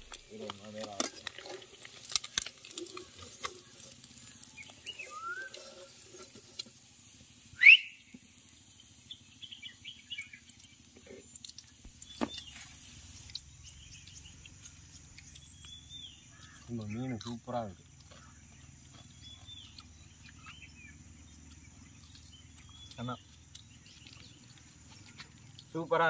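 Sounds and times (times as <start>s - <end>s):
birds chirping: 0.0s - 26.0s
hot oil crackling: 0.0s - 26.0s.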